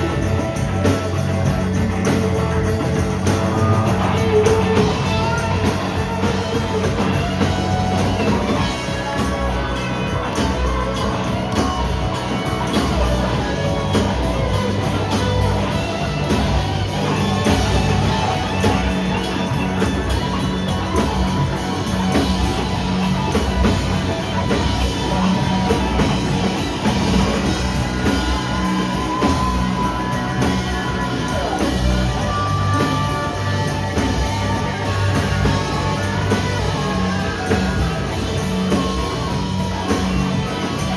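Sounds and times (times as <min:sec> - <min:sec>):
live rock band playing: 0:00.0 - 0:40.9
steady drum beat: 0:00.0 - 0:40.9.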